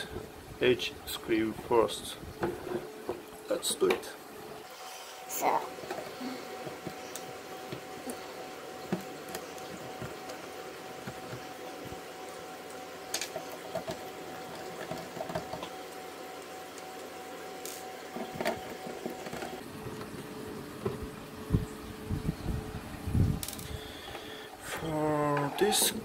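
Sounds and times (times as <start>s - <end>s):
aquarium pump hum: 0.0s - 26.0s.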